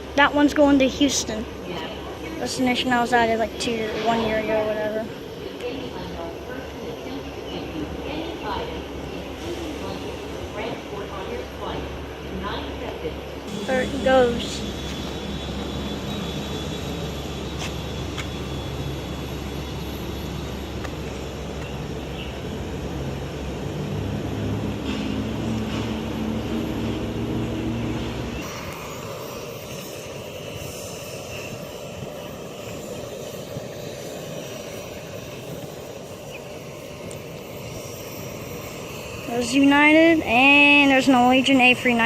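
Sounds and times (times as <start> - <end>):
jet engines taking off: 0.0 - 42.0
steady background noise: 0.0 - 42.0.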